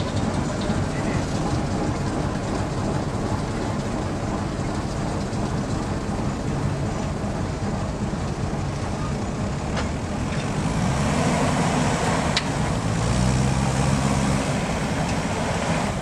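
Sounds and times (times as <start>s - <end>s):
locomotive diesel engine running: 0.0s - 16.0s.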